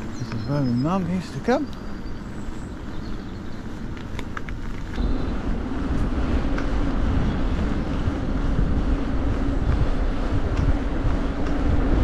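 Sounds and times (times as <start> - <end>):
bicycle tyres on tarmac: 0.0 - 12.0
steady low hum: 0.0 - 12.0
wind buffeting microphone: 0.0 - 12.0.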